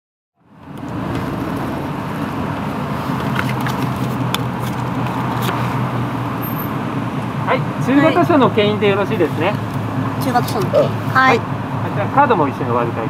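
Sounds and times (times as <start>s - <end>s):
car engine humming: 0.4s - 13.0s.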